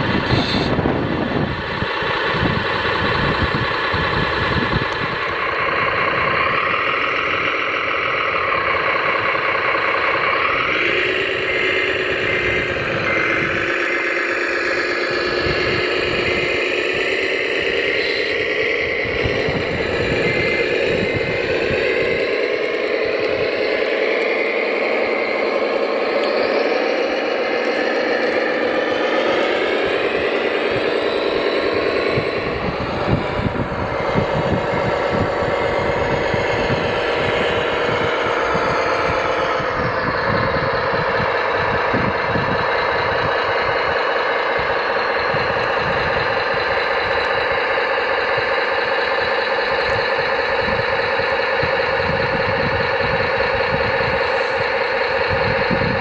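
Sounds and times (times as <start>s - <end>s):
rattle: 0.0s - 56.0s
toy vehicle motor drone: 0.0s - 56.0s.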